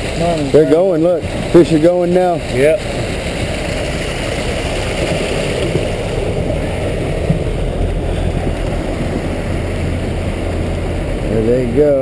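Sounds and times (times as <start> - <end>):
water rushing and gurgling: 0.0 - 12.0.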